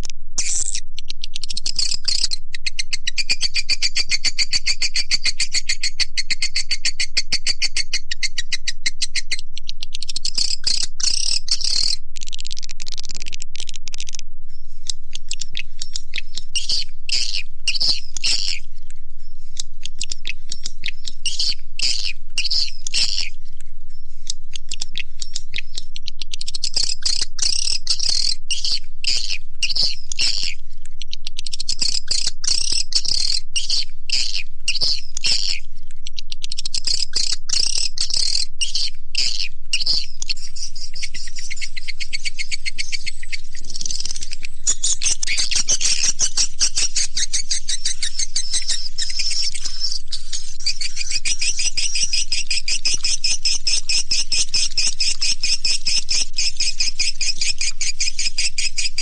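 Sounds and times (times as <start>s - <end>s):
swiftlets twittering and clicking: 0.0s - 5.8s, 6.4s - 14.2s, 15.0s - 23.4s, 24.3s - 59.0s.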